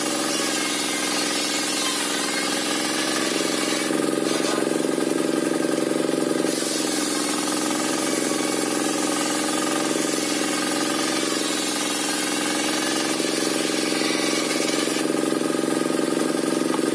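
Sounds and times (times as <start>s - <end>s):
saw blade ripping timber: 0.0s - 5.8s, 6.4s - 15.6s
circular sawmill running: 0.0s - 16.9s.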